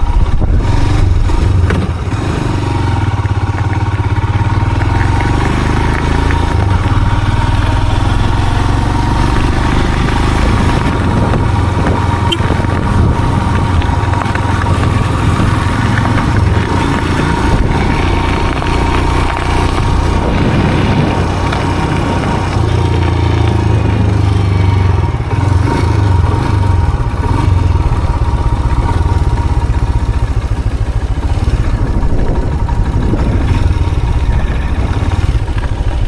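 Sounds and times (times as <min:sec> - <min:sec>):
vehicle engine and road drone: 0:00.0 - 0:36.0.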